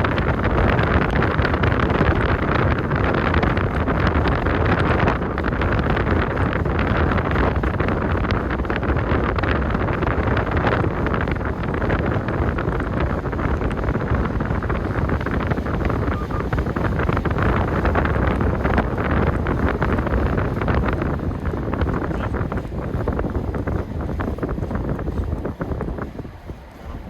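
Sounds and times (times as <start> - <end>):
low road rumble: 0.0 - 27.0
wind buffeting microphone: 0.0 - 27.0.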